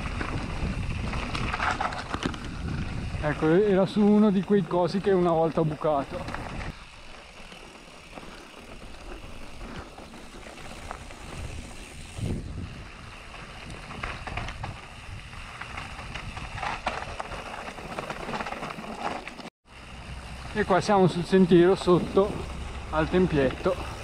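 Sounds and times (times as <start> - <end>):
bike tyres rumbling on gravel: 0.0 - 24.0.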